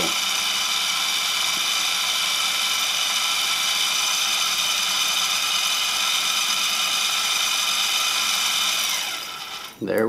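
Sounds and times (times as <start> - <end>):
electric motor whirring: 0.0 - 9.8.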